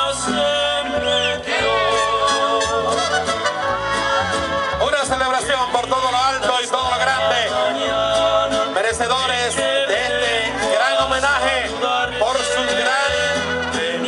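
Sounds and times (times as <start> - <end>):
bass line: 0.0 - 14.0.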